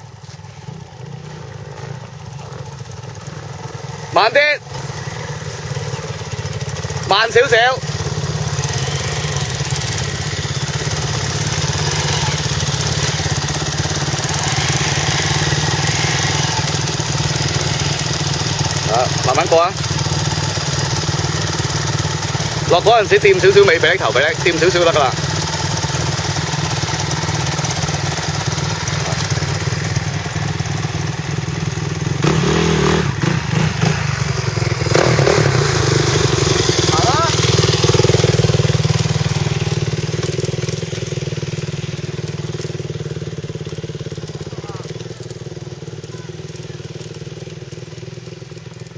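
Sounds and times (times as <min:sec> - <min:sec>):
dirt bike engine running: 0:00.0 - 0:48.9.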